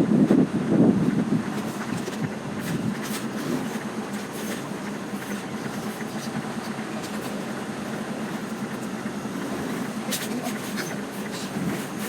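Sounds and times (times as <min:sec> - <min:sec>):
lorry engine drone: 0:00.0 - 0:12.0
road noise: 0:00.0 - 0:12.0.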